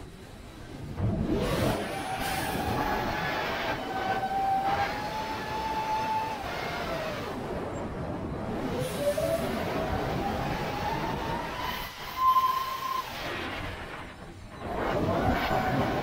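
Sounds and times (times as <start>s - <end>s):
quadcopter motors whining: 0.0s - 16.0s
wind noise on microphone: 0.0s - 16.0s.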